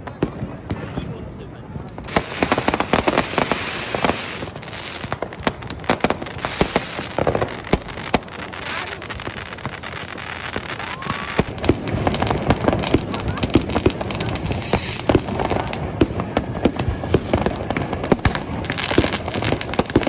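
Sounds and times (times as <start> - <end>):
firecracker bangs and cracks: 1.9 - 20.0
hissing crackle: 1.9 - 20.0
rising firework whistle: 2.0 - 20.0.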